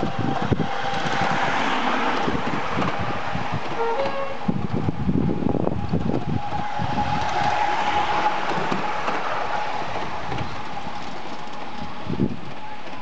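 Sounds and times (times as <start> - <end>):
train wheels rattling over rails: 0.0 - 13.0.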